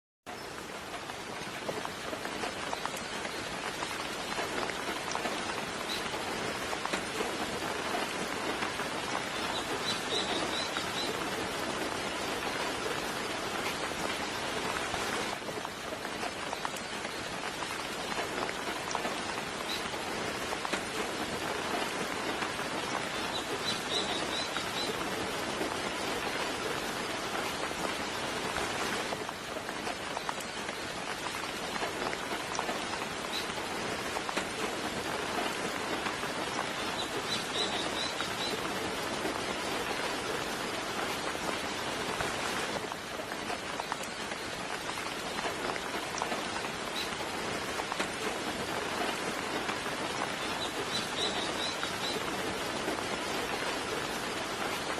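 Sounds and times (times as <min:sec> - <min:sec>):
rain pattering: 0:00.3 - 0:54.9.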